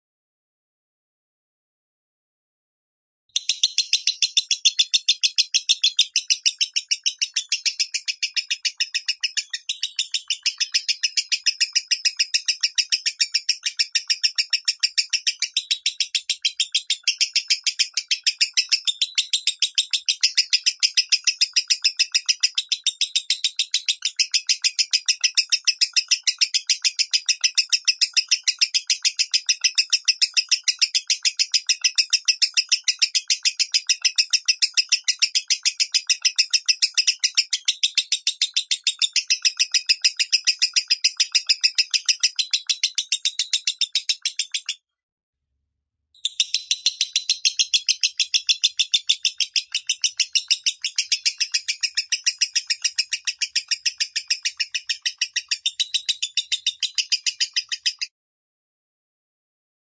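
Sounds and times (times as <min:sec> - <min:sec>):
lovebird shrill chirps: 0:03.4 - 0:44.8, 0:46.2 - 0:58.1.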